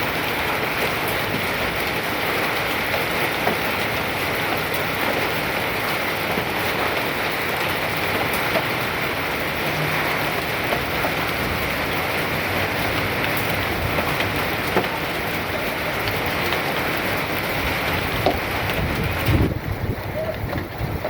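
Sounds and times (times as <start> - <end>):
hail pelting down: 0.0 - 21.0.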